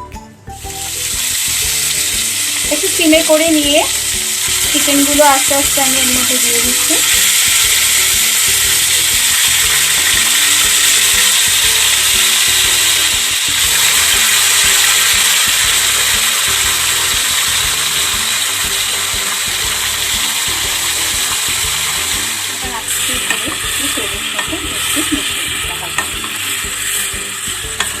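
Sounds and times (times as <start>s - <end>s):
chicken sizzling in oil: 0.6s - 28.0s.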